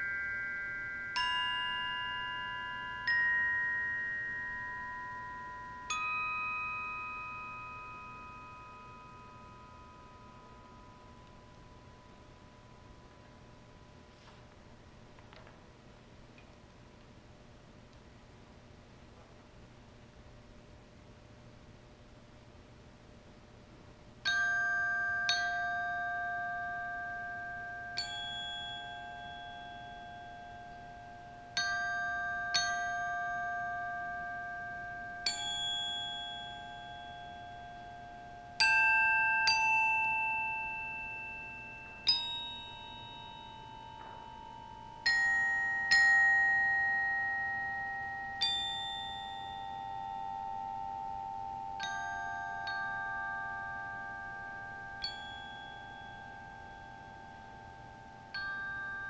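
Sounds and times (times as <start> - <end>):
glockenspiel notes ringing: 0.0 - 14.3, 24.2 - 59.0.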